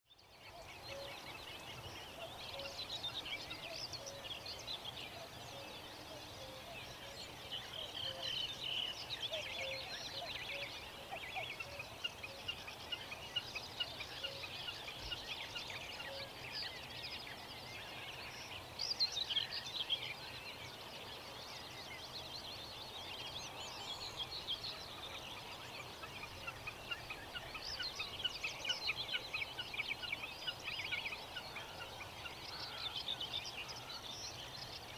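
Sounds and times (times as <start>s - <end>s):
faint outdoor background: 0.0s - 34.9s
small birds chirping and trilling: 0.1s - 34.9s.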